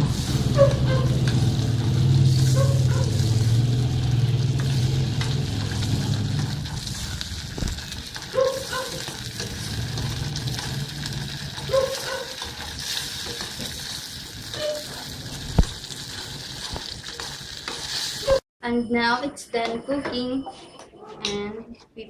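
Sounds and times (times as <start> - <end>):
chicken sizzling in a pan: 0.0 - 18.4.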